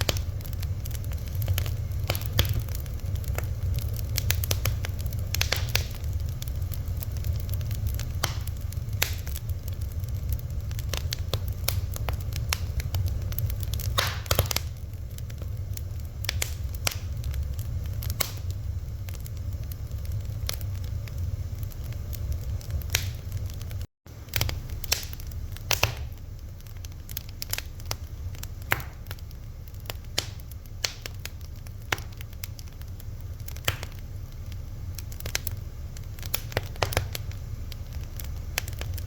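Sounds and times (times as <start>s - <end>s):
fire crackling and popping: 0.0s - 39.0s
steady low rumble: 0.0s - 39.0s.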